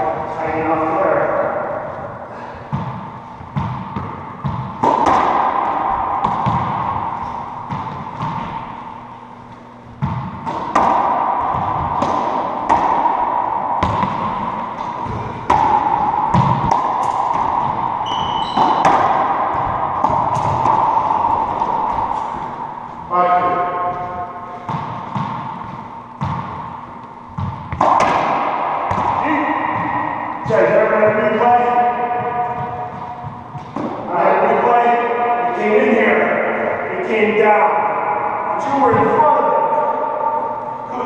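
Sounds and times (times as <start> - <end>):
racquetball hits ringing in court: 0.5 - 36.8.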